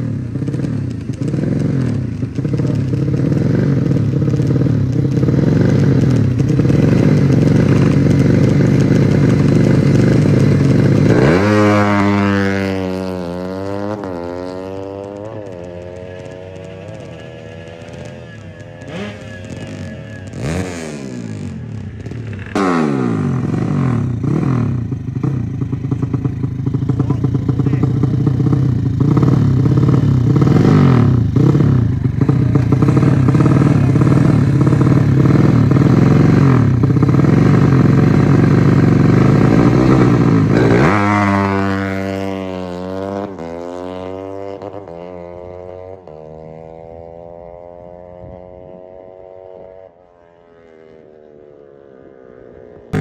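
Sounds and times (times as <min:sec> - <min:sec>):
motorcycle engine revving hard: 0:00.0 - 0:53.0.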